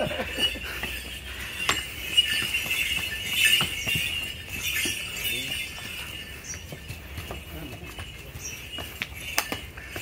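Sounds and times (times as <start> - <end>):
hooves clopping on stone: 0.0 - 10.0
jingling and clinking: 0.0 - 10.0.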